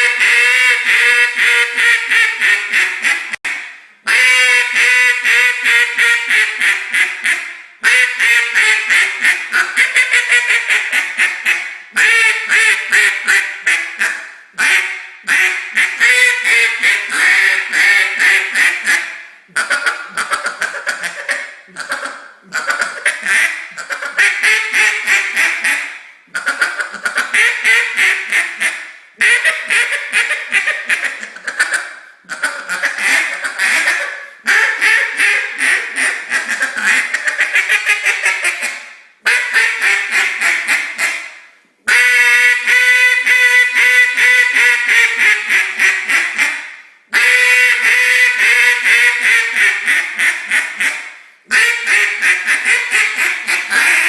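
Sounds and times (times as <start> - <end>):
duck call quacking: 0.0 - 54.0.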